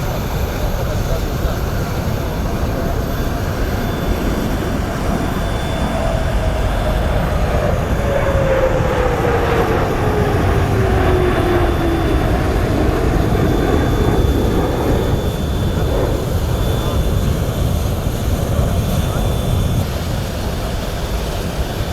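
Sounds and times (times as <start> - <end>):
fighter jet passing: 0.0 - 21.8.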